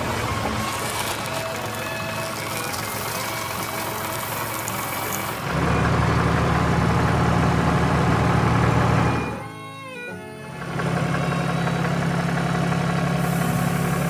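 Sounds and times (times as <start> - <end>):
cartoon heavy vehicle engine idling: 0.0 - 14.0.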